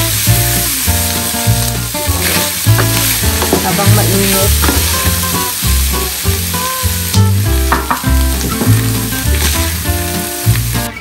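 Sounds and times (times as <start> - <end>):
background music with bass: 0.0 - 11.0
vegetables sizzling in pan: 0.0 - 11.0.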